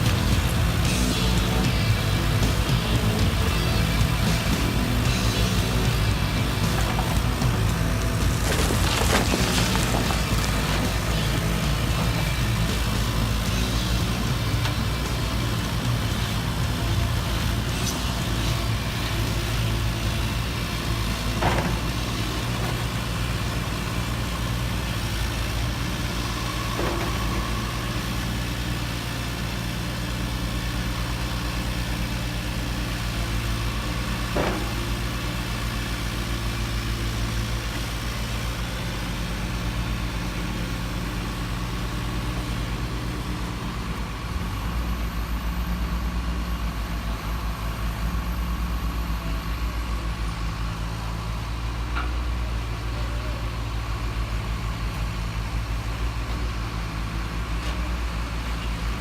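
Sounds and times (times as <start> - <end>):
model truck engine idling: 0.0 - 59.0.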